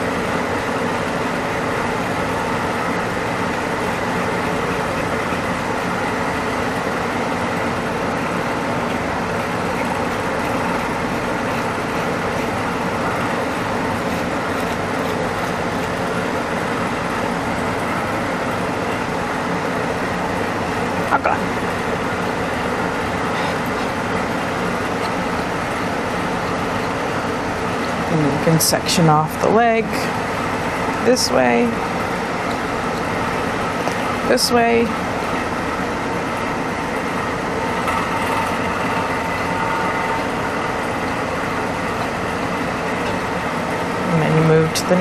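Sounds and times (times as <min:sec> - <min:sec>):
constant hum: 0:00.0 - 0:45.0.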